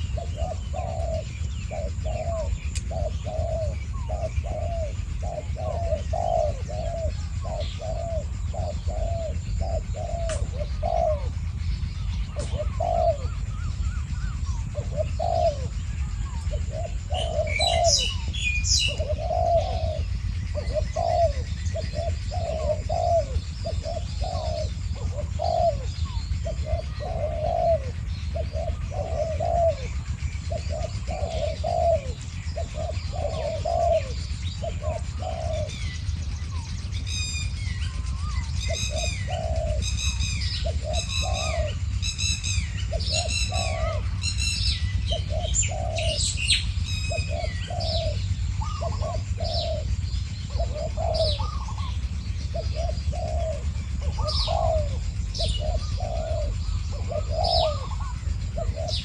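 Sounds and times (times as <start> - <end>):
doves cooing: 0.0 - 59.0
small bird chirping: 0.0 - 59.0.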